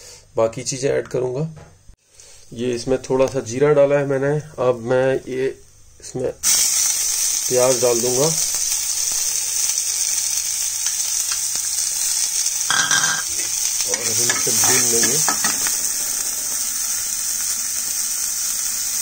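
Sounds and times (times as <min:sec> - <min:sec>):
onions sizzling in oil: 0:02.2 - 0:19.0.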